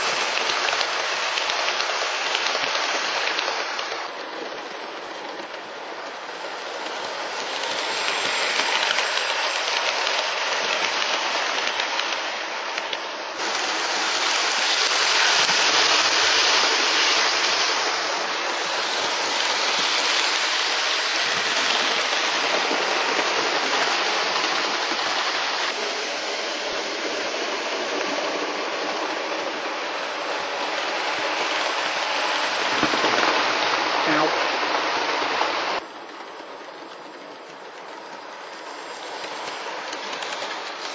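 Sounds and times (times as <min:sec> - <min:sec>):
model steam locomotive running: 0:00.0 - 0:40.9.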